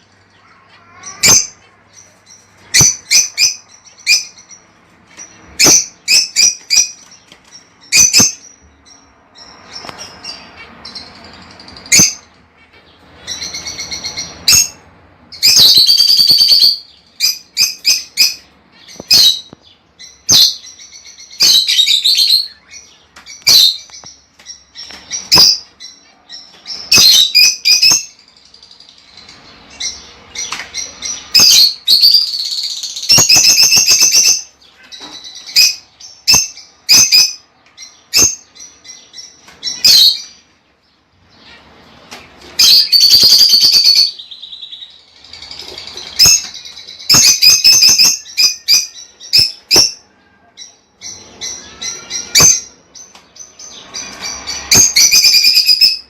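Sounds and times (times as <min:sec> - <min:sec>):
lovebirds chirping: 0:00.0 - 0:56.0.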